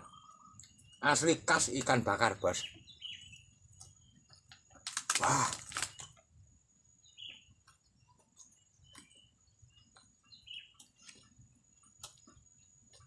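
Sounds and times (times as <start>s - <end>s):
bird chirping faintly: 0.0s - 4.8s, 5.8s - 13.0s.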